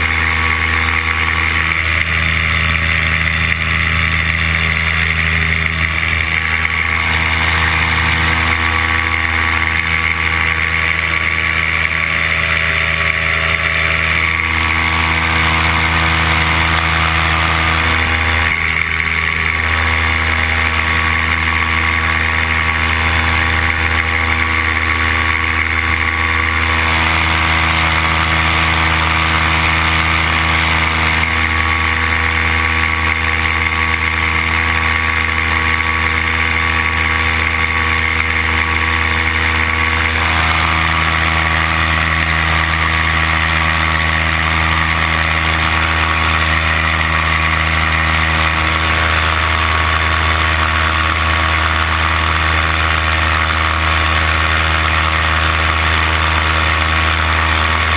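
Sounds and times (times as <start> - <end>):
paramotor engine droning: 0.0 - 57.9.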